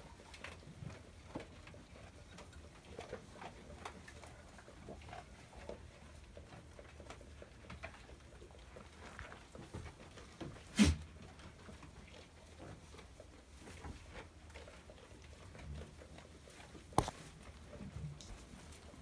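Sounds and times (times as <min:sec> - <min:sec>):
goats snuffling and chewing: 0:00.0 - 0:19.0.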